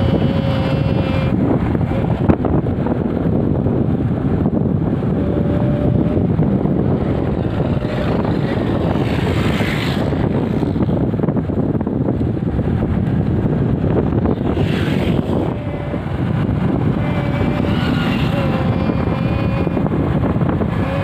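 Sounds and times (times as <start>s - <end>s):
bike riding rumble: 0.0s - 21.0s
wind buffeting microphone: 0.0s - 21.0s.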